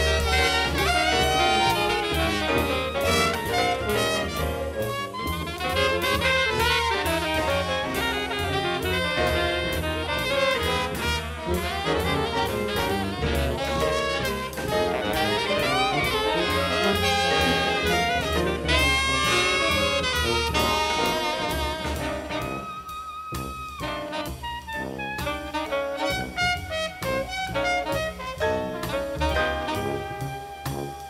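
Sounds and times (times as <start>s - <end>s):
live jazz band playing: 0.0s - 31.0s
trumpet solo: 0.0s - 31.0s.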